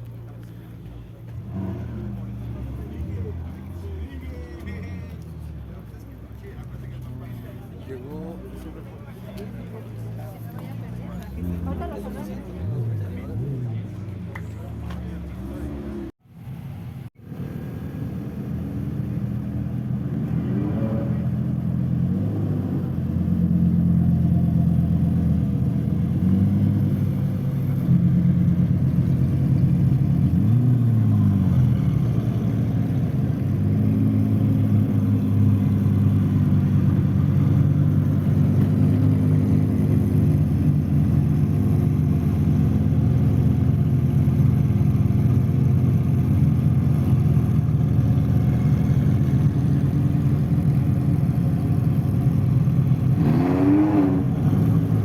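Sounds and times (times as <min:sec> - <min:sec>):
sports car engines droning: 0:00.0 - 0:55.0
engine revs: 0:01.2 - 0:16.2, 0:17.4 - 0:55.0.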